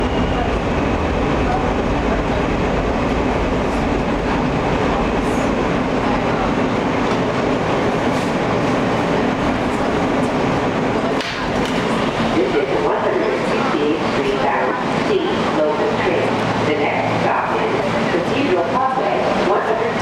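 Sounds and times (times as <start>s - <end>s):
subway car wheels rumbling on rail: 0.0s - 20.0s.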